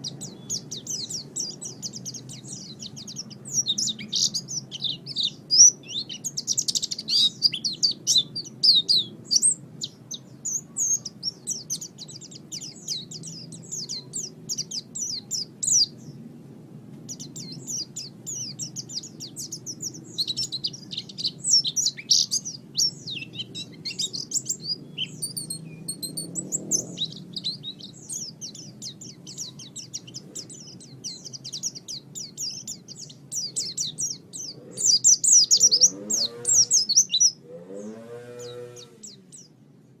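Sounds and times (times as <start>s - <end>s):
bird twittering song: 0.0s - 40.0s.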